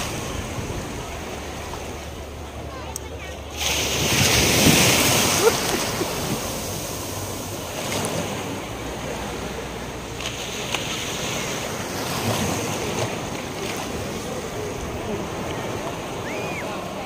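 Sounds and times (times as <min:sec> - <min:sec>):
small sea waves washing in: 0:00.0 - 0:17.0.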